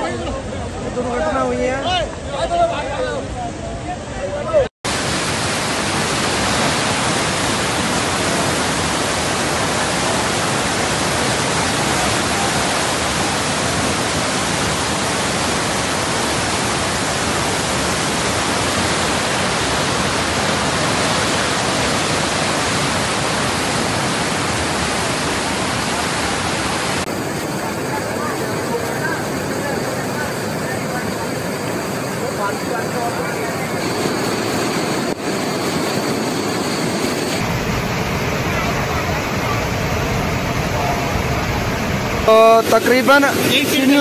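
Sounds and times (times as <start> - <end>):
river rushing in flood: 4.9 - 44.0.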